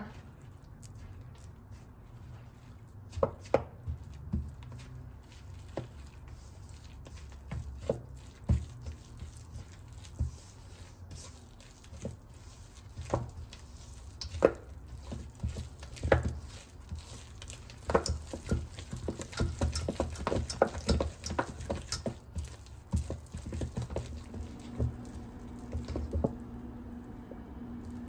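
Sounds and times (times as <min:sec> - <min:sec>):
spatula stirring dough in metal bowl: 0:00.0 - 0:28.0.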